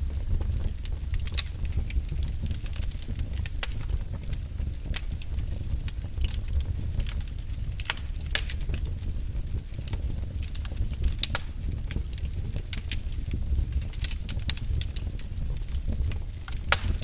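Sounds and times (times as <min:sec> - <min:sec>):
fire crackling with pops: 0:00.0 - 0:17.0
low steady rumble: 0:00.0 - 0:17.0.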